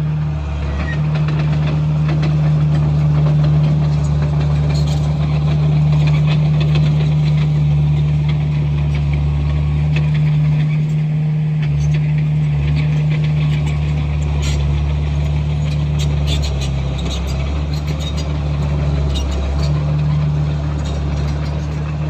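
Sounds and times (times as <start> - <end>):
bulldozer diesel engine running: 0.0 - 22.0
light rattles and clanks: 0.8 - 22.0.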